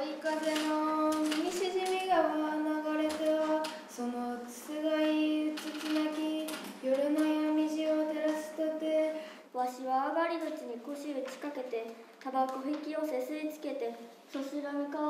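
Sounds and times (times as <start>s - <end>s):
girl chanting in sung style: 0.0s - 15.0s.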